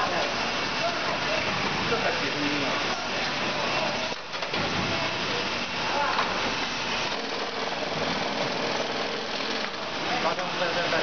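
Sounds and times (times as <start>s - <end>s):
packing machine running: 0.0s - 11.0s.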